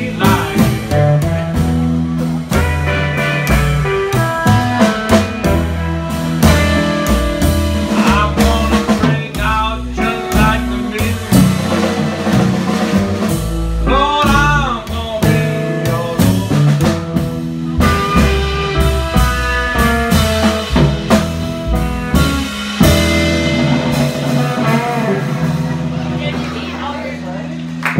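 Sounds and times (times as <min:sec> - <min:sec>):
blues guitar lead: 0:00.0 - 0:27.9
drums: 0:00.0 - 0:27.9
upright bass: 0:00.0 - 0:27.9.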